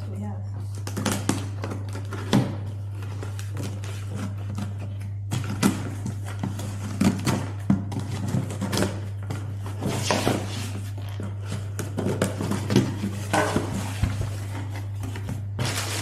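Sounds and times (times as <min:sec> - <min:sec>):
packaging rustling: 0:01.2 - 0:16.0.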